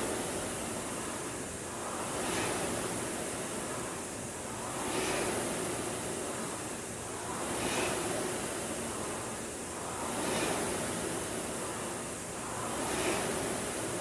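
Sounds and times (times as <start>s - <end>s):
rowing machine flywheel whooshing: 0.0s - 14.0s.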